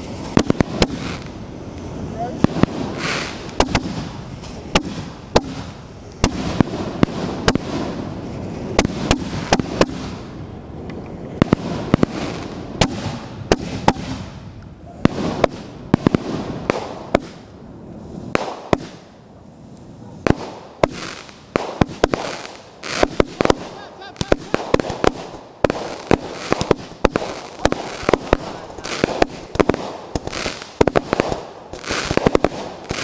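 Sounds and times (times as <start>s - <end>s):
fireworks bangs and cracks: 0.0s - 33.0s
fireworks hissing rush: 0.0s - 33.0s.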